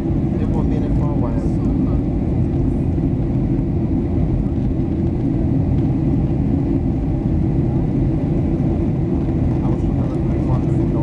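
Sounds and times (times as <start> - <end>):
airflow over fuselage: 0.0 - 11.0
jet engine rumble: 0.0 - 11.0.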